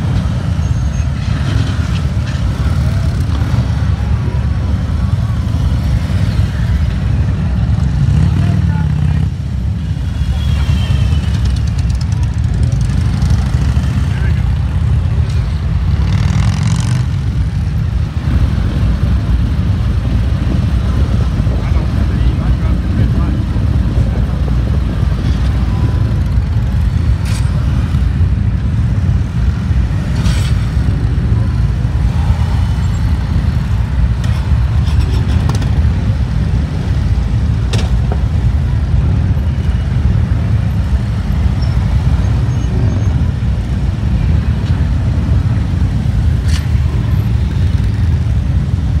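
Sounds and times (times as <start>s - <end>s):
motorcycles rumbling at low speed: 0.0s - 49.0s.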